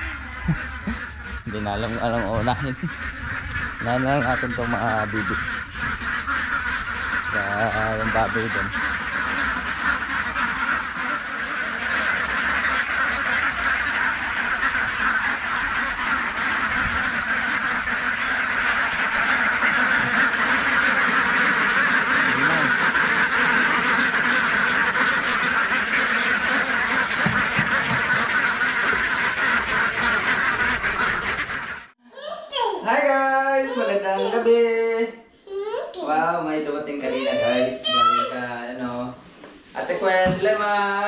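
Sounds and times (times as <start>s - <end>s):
flock of ducks quacking: 0.0s - 32.0s, 33.1s - 35.0s, 36.1s - 41.0s.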